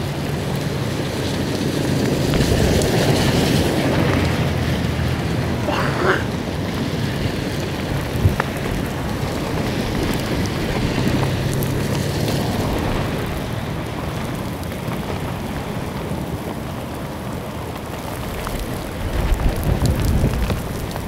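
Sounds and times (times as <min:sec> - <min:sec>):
cars swishing on wet road: 0:00.0 - 0:21.0
heavy rain in gusting wind: 0:00.0 - 0:21.0.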